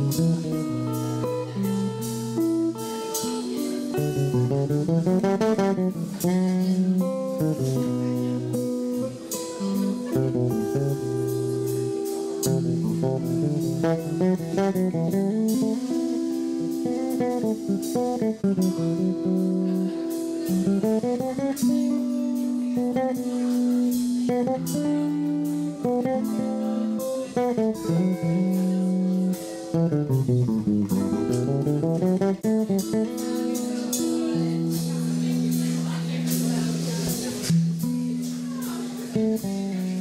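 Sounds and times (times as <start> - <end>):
bass guitar: 0.0 - 40.0
electric guitar melody: 0.0 - 40.0
light drum and cymbal strokes: 0.0 - 40.0.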